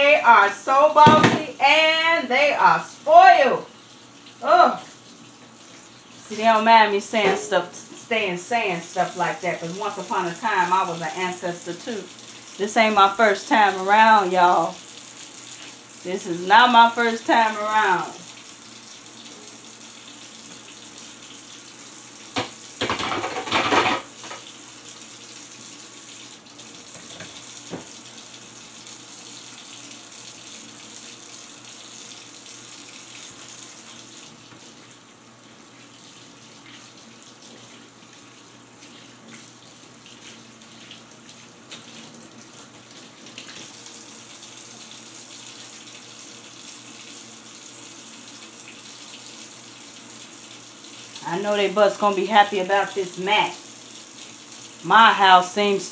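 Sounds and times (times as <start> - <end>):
faucet running into sink: 2.6 - 55.9.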